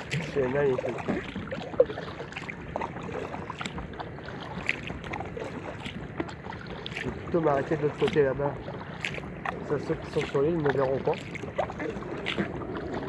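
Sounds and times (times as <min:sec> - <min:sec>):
paddle splashing water: 0:00.0 - 0:13.0.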